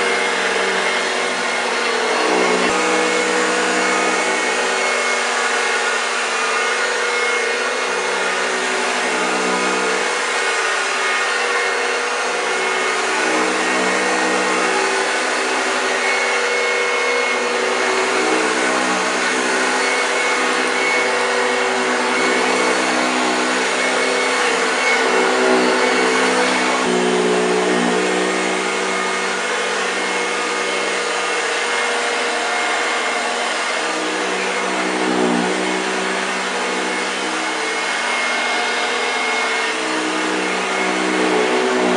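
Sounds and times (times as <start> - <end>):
upright vacuum cleaner running: 0.0 - 41.9.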